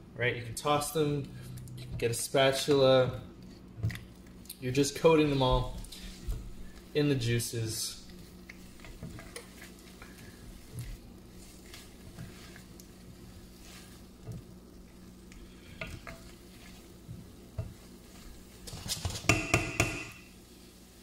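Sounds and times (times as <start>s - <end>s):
faint sizzle in pan: 0.2s - 21.0s.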